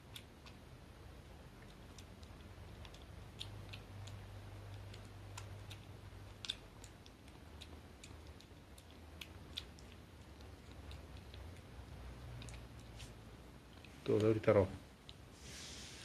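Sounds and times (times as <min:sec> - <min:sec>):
kitten chewing and licking: 0:00.0 - 0:15.6
low steady hum: 0:00.0 - 0:16.0.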